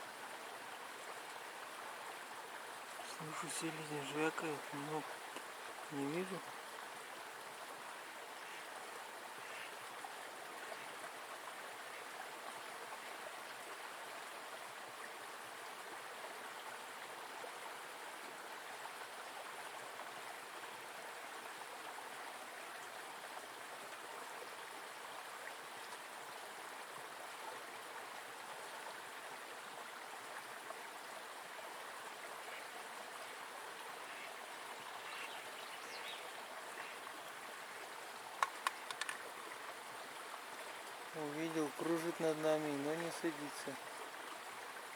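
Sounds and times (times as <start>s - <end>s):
river flowing: 0.0s - 44.9s.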